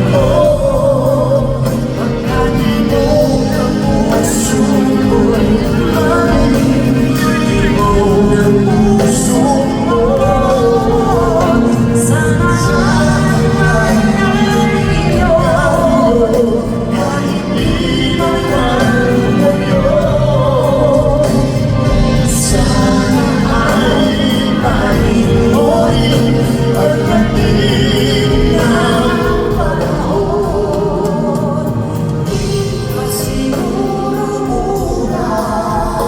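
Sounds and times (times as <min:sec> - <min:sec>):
live band with singing: 0:00.0 - 0:36.0.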